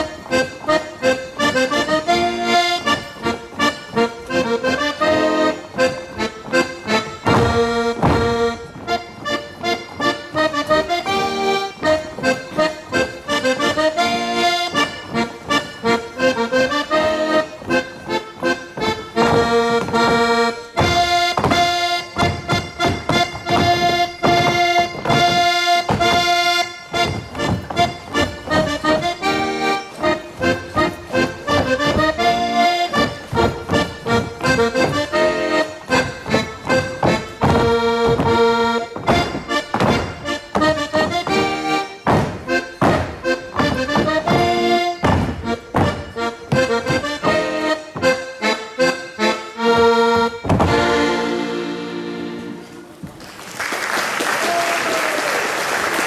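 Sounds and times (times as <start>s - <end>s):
accordion playing folk waltz: 0.0s - 53.2s.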